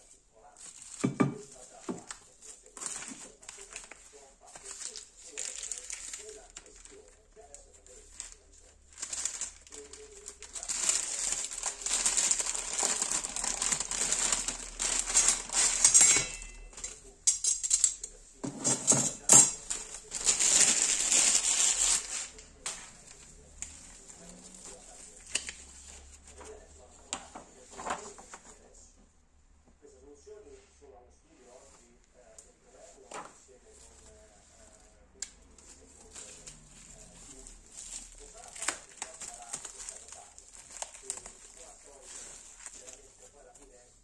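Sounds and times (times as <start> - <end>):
paper sheet handled: 0.0 - 16.0, 18.4 - 28.7, 32.8 - 35.0, 35.6 - 44.0
plastic wrap crinkling: 0.0 - 18.2, 19.0 - 28.7, 32.8 - 44.0.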